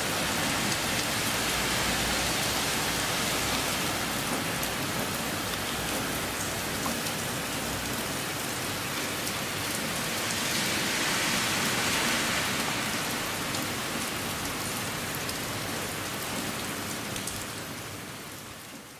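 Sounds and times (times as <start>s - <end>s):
heavy rain pouring: 0.0s - 18.9s.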